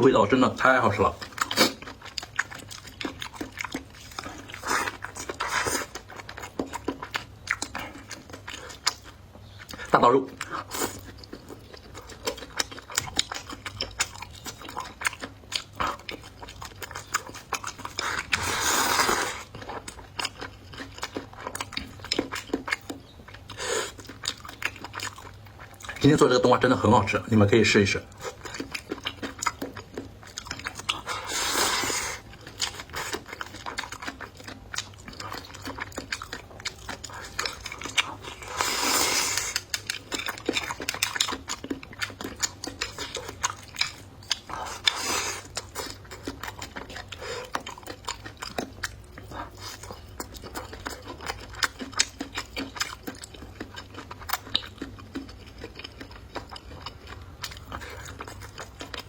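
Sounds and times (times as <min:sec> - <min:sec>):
person chewing with wet smacks: 0:00.3 - 0:27.3, 0:28.0 - 0:59.0.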